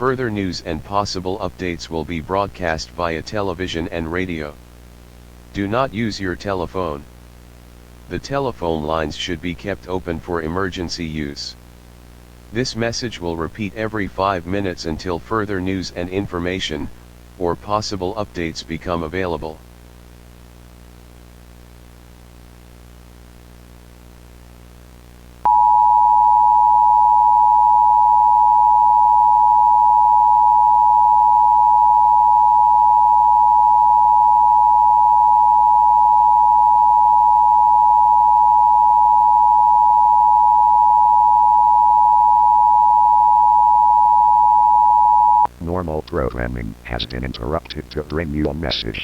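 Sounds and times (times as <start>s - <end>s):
faint low electrical hum: 0.0s - 49.0s.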